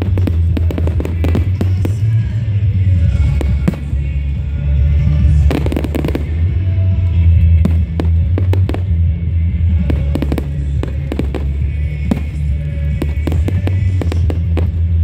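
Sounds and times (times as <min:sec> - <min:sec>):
fireworks bangs and crackles: 0:00.0 - 0:15.0
loud music with heavy bass: 0:00.0 - 0:15.0.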